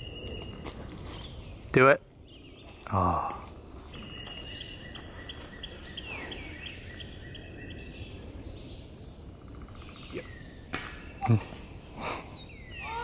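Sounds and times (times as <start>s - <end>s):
bird chirping: 0.0s - 13.0s
steady outdoor hiss: 0.0s - 13.0s.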